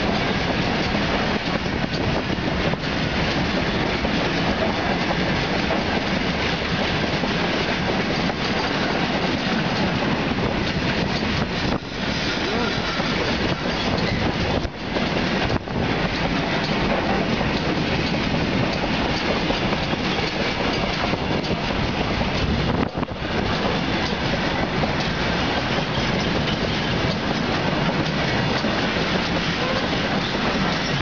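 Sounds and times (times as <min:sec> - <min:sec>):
train wheels rolling on rails: 0:00.0 - 0:31.0.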